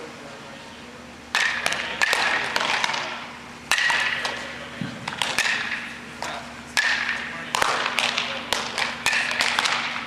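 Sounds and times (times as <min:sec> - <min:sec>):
baseballs cracking into gloves and bats: 0:01.3 - 0:10.0.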